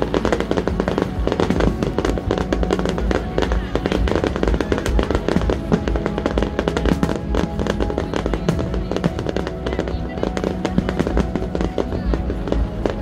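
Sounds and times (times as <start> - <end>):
fireworks bursting and crackling: 0.0 - 13.0
loud music: 0.0 - 13.0.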